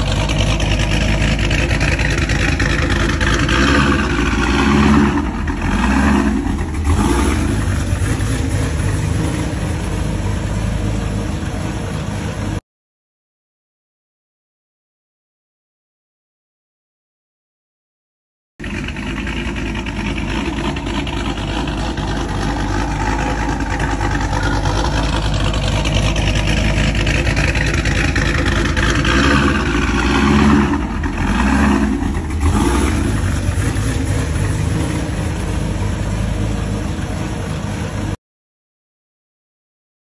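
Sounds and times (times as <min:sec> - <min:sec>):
loud car engine revving: 0:00.0 - 0:12.6, 0:18.6 - 0:38.2.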